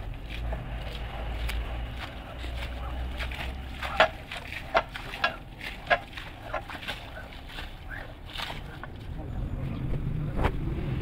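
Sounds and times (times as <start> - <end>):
squeegee wet slaps and splashes: 0.0 - 9.1.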